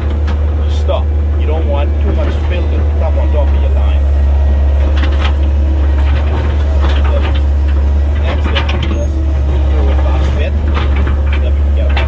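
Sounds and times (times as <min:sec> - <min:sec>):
excavator diesel engine running: 0:00.0 - 0:12.0
harsh scraping and clatter: 0:00.0 - 0:12.0.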